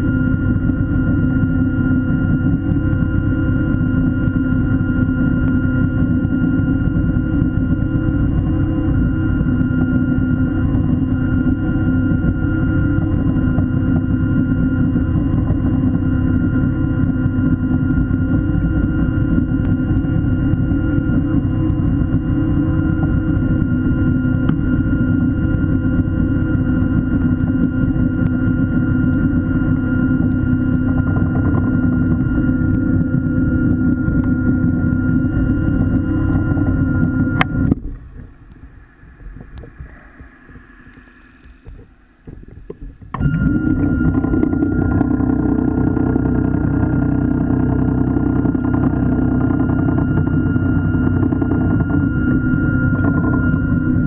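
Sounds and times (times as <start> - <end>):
underwater motor and propeller hum: 0.0 - 54.0.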